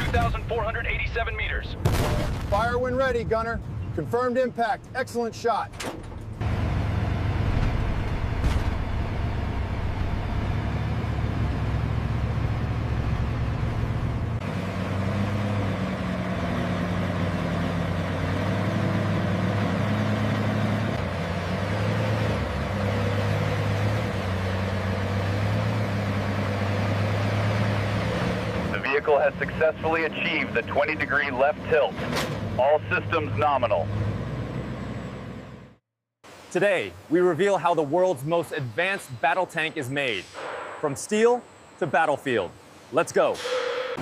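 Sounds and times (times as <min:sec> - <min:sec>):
tank engine rumbling: 0:00.0 - 0:35.8.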